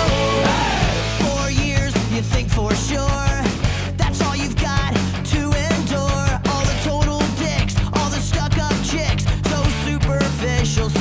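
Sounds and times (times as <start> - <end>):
rock music with guitar and drums: 0.0 - 11.0.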